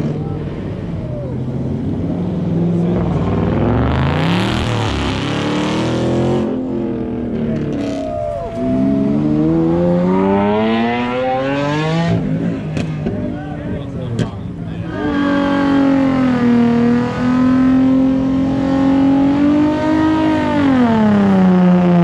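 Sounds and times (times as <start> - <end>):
car engines accelerating: 0.0 - 22.0.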